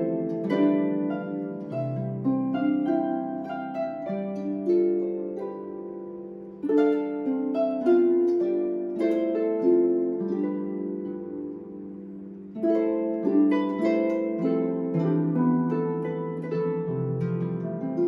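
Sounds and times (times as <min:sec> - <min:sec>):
harp playing slow melody: 0:00.0 - 0:18.0.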